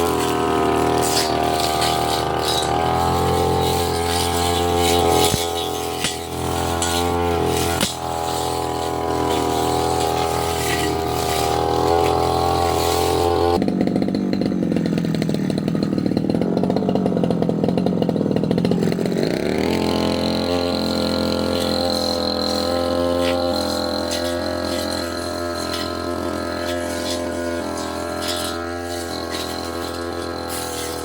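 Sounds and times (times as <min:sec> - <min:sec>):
brush cutter engine running: 0:00.0 - 0:31.0.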